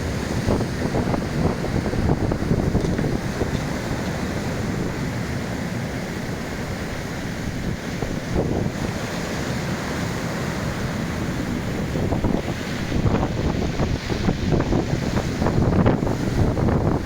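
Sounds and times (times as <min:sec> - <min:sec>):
waves washing onto shore: 0:00.0 - 0:17.0.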